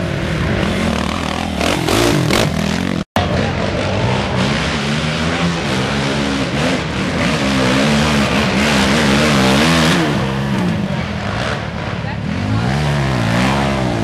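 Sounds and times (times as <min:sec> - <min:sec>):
quad engine revving: 0:00.0 - 0:14.0.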